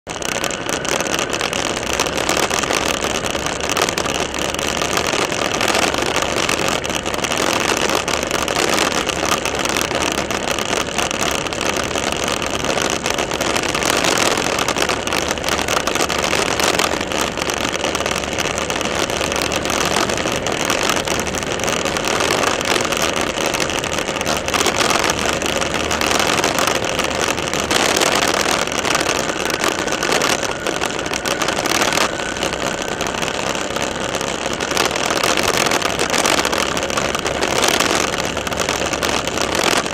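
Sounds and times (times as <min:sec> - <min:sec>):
motorcycle engine tyre and wind noise: 0:00.0 - 0:39.9.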